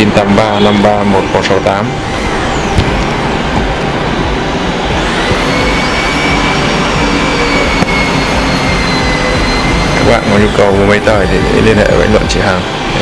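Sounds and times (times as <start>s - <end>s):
high mechanical whine: 0.0s - 13.0s
machinery rumble: 0.0s - 13.0s.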